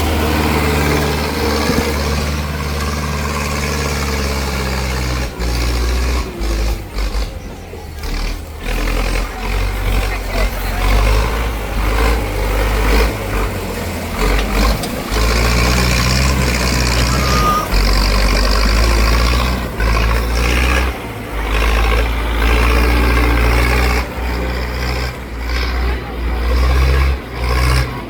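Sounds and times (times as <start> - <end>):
tractor engine rumbling: 0.0 - 28.0.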